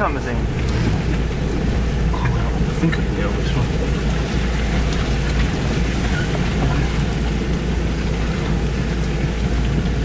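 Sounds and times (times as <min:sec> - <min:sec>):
car engine rumbling inside cabin: 0:00.0 - 0:10.0.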